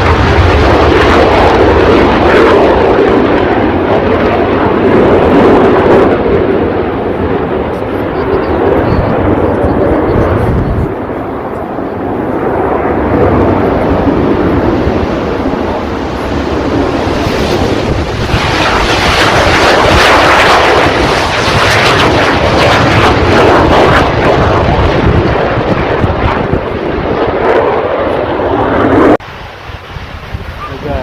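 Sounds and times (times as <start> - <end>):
aircraft flying past: 0.0 - 31.0
wind rumbling on microphone: 0.0 - 31.0.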